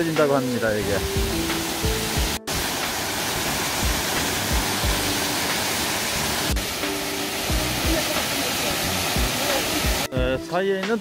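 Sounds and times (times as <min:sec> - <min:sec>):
background music with soft beat: 0:00.0 - 0:08.3, 0:08.9 - 0:11.0
waterfall rushing: 0:00.0 - 0:10.1.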